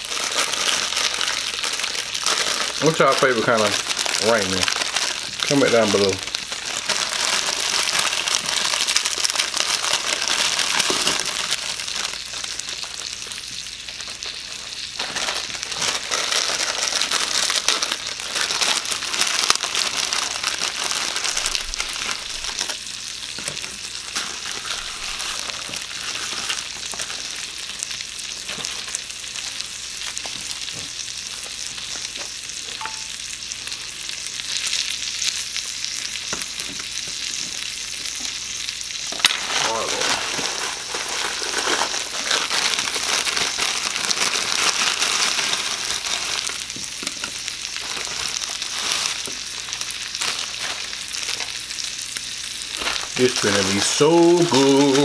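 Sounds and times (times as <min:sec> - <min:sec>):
packets crinkling: 0:00.0 - 0:31.0, 0:39.0 - 0:55.0
sausages sizzling: 0:00.0 - 0:55.0.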